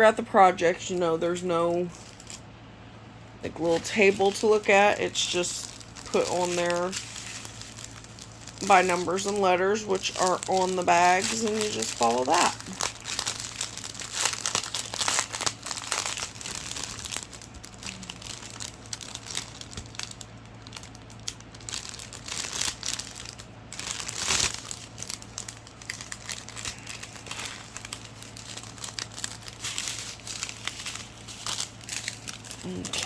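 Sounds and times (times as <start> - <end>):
plastic packaging crinkling: 0.4 - 2.5, 3.4 - 33.0.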